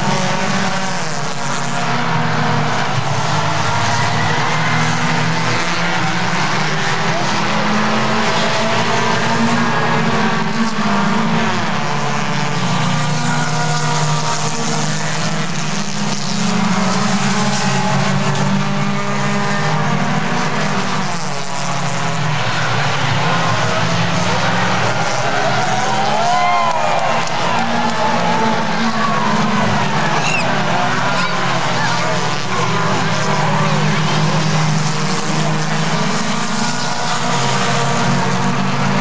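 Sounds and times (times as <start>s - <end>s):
racing car engines: 0.0s - 39.0s.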